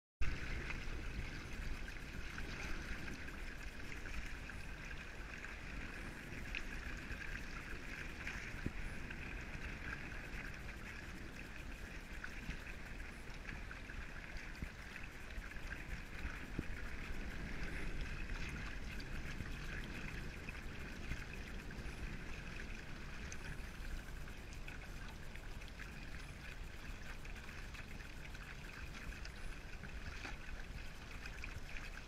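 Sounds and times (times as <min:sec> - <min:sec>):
water rushing along a hull: 0:00.2 - 0:32.0
wind rumble on microphone: 0:00.2 - 0:32.0.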